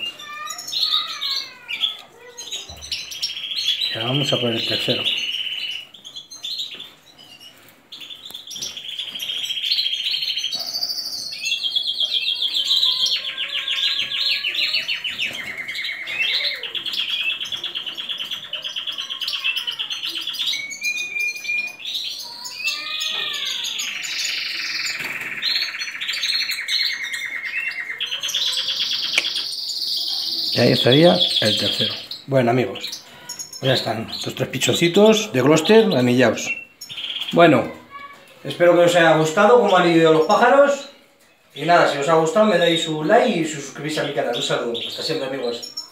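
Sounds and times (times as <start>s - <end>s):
canaries singing trills: 0.0s - 45.9s.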